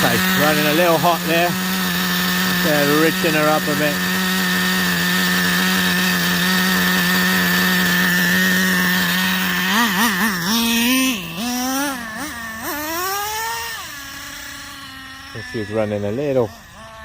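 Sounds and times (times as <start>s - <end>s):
nitro engine revving: 0.0s - 17.0s.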